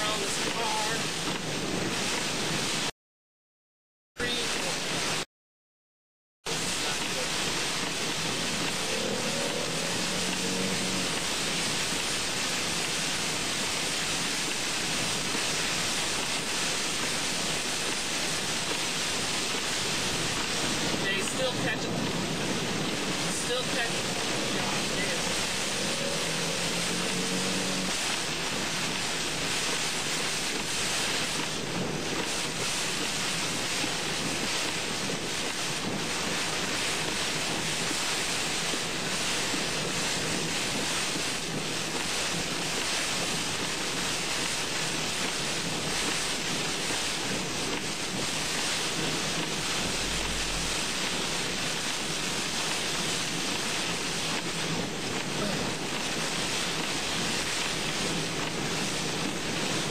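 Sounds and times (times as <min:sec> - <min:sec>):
heavy rain on a car: 0:00.0 - 0:02.9, 0:04.2 - 0:05.2, 0:06.5 - 0:59.9.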